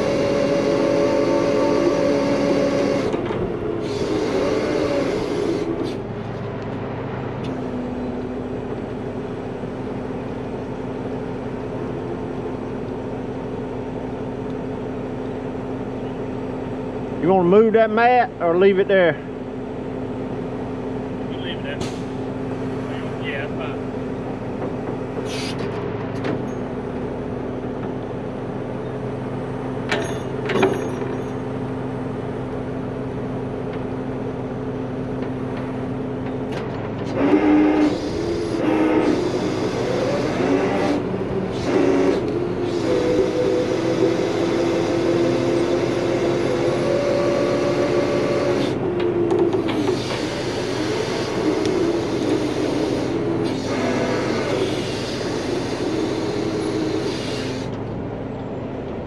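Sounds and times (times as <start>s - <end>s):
diesel truck engine running: 0.0s - 59.0s
hydraulic whine: 0.0s - 59.0s.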